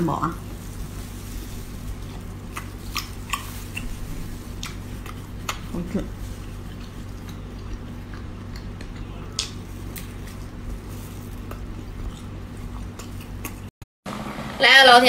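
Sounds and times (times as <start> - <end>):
steady low hum: 0.0 - 13.7
person chewing: 0.4 - 13.7.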